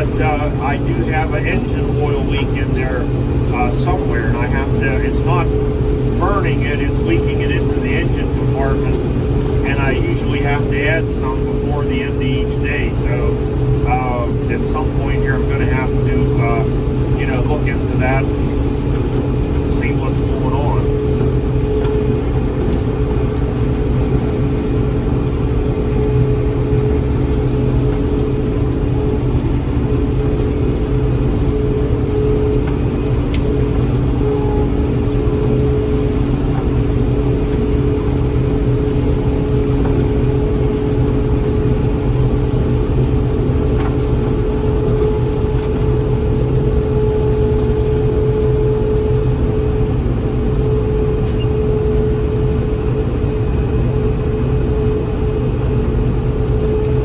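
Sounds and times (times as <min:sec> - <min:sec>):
combine harvester engine drone: 0:00.0 - 0:57.0
steady machinery whine: 0:00.0 - 0:57.0.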